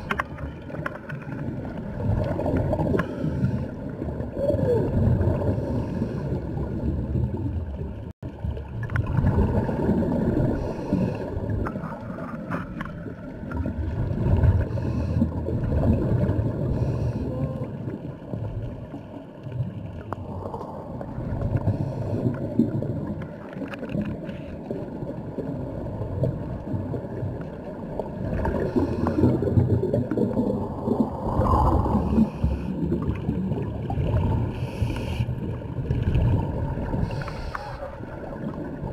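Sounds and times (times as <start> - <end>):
gurgling bubbles: 0.0 - 38.9
underwater rumble of water: 0.0 - 38.9.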